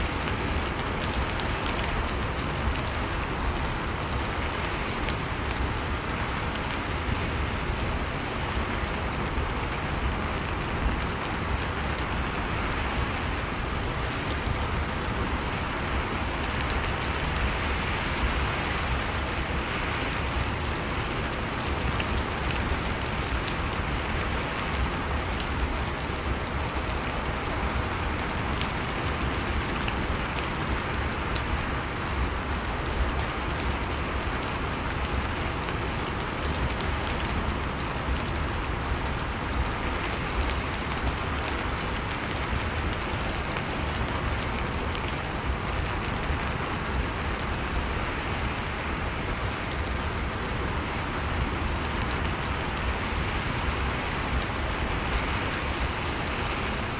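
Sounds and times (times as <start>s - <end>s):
continuous rainfall: 0.0s - 56.9s.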